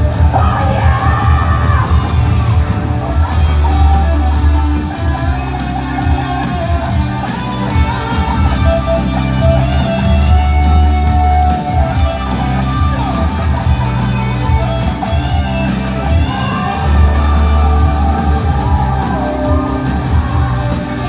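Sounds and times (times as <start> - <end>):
bass guitar: 0.0 - 21.0
distorted electric guitar: 0.0 - 21.0.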